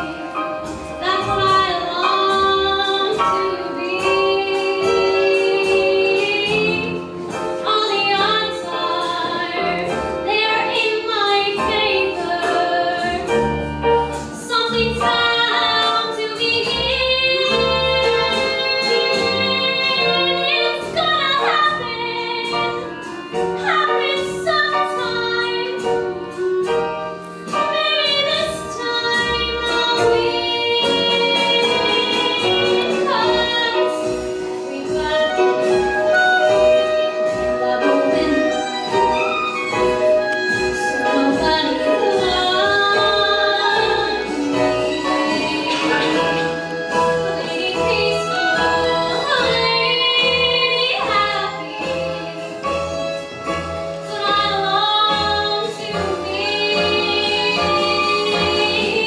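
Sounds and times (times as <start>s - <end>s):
instrumental accompaniment: 0.0s - 59.0s
woman singing a ballad: 1.0s - 13.6s, 14.2s - 26.7s, 27.5s - 39.4s, 40.4s - 53.2s, 54.0s - 59.0s.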